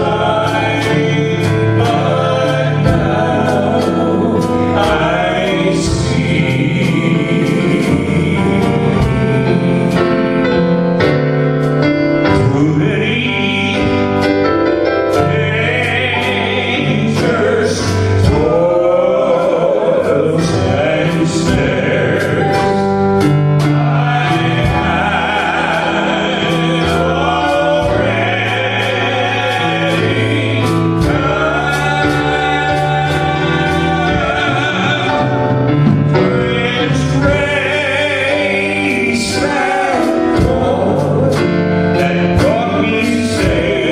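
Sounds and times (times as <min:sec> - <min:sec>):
voices singing a hymn: 0:00.0 - 0:11.0, 0:12.2 - 0:43.9
piano accompaniment: 0:00.0 - 0:43.9.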